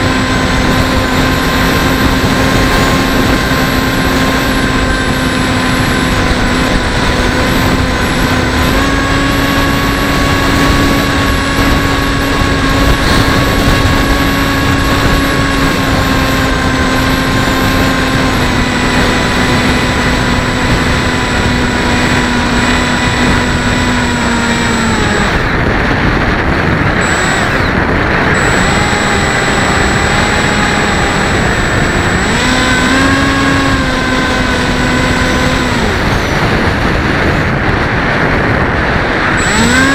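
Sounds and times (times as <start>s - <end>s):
electric motor and propeller whining: 0.0s - 39.9s
wind rushing across microphone: 0.0s - 39.9s.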